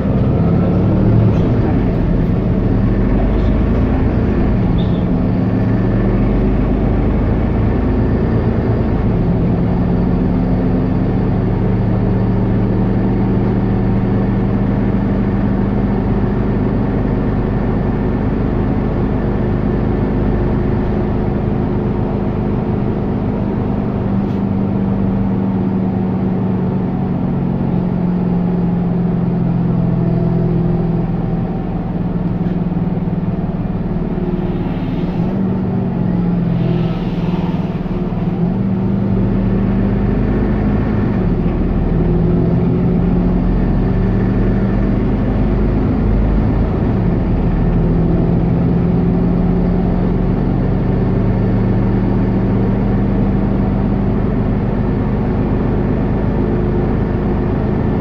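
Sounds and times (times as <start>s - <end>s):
bus engine humming: 0.0s - 58.0s.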